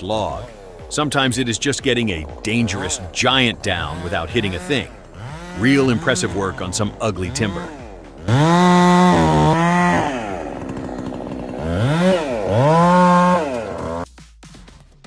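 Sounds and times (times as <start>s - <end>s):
chainsaw revving: 0.0s - 14.1s.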